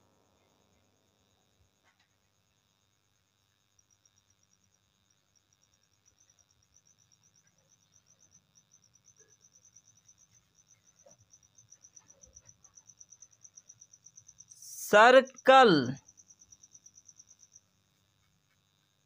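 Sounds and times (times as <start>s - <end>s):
insect chirping: 0.2s - 19.0s.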